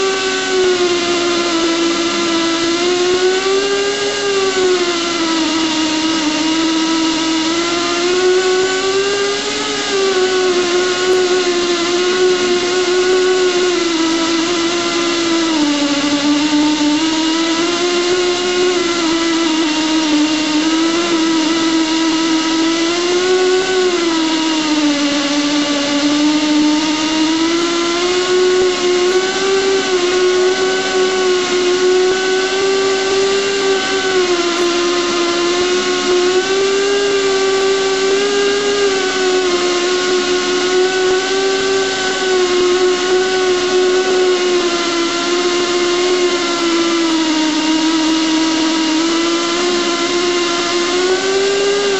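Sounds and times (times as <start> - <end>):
pipe bevelling machine motor whine: 0.0 - 51.9.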